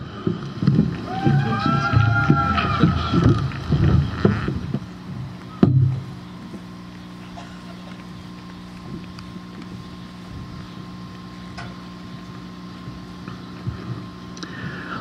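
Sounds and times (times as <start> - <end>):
low hum of held tones: 0.0 - 15.0.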